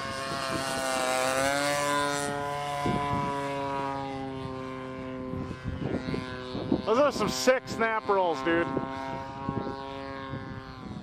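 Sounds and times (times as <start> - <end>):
model plane engine droning overhead: 0.0 - 11.0.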